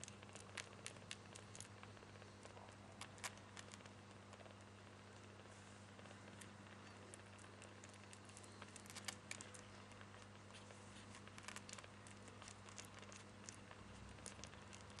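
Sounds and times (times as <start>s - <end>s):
kittens suckling clicks: 0.0s - 15.0s
steady low hum: 0.0s - 15.0s.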